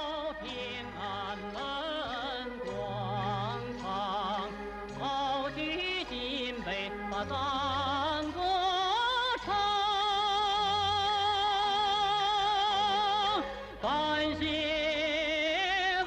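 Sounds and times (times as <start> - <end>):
man singing operatic tenor: 0.0 - 16.0
musical accompaniment: 0.0 - 16.0.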